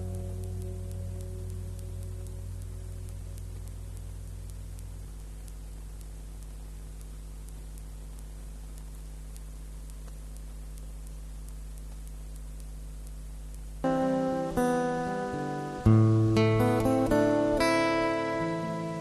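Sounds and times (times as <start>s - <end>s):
electrical mains hum: 0.0s - 19.0s
faint regular ticks: 0.0s - 19.0s.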